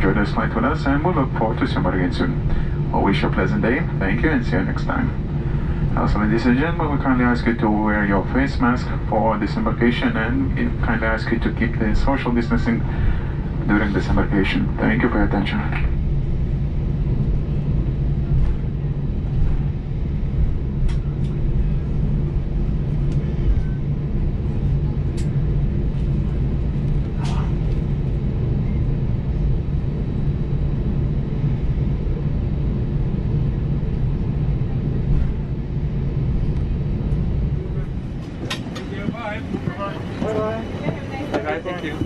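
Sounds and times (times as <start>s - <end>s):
jet engines idling: 0.0s - 42.0s.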